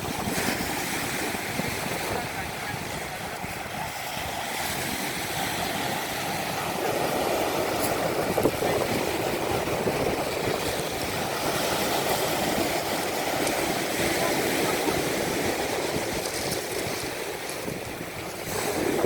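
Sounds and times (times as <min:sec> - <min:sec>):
surf breaking and churning: 0:00.0 - 0:19.0.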